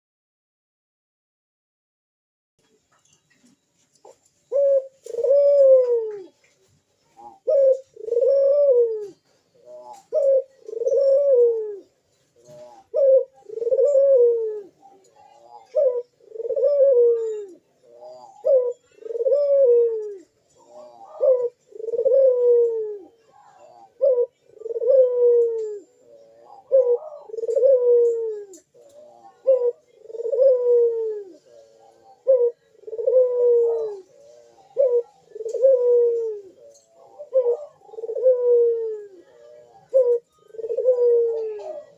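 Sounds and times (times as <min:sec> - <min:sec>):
dove cooing: 0:04.0 - 0:41.9.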